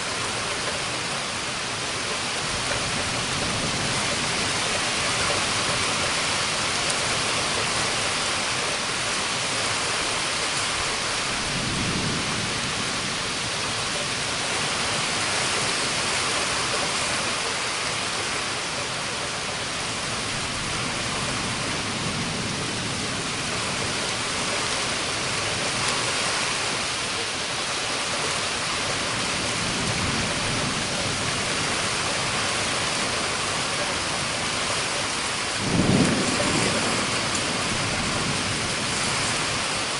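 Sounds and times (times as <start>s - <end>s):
heavy rain hissing: 0.0s - 39.9s
low thunder rumbling: 2.5s - 17.0s, 19.3s - 26.1s, 28.5s - 39.9s.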